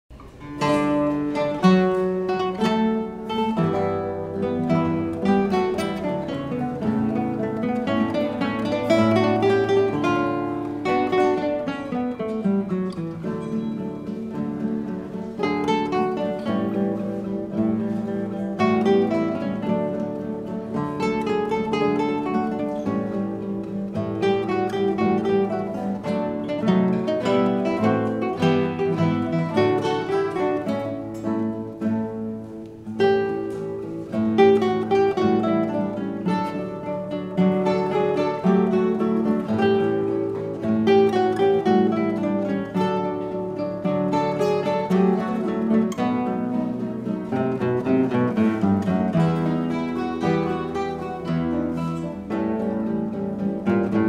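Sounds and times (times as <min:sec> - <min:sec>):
classical guitars playing: 0:00.1 - 0:54.0.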